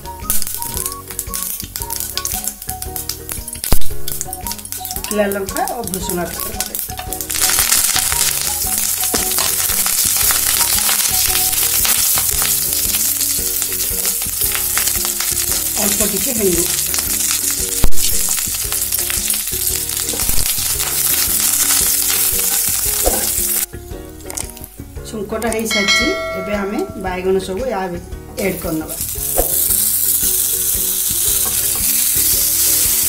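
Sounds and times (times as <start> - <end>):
spices sizzling in hot oil: 0.0 - 27.5, 28.2 - 33.0.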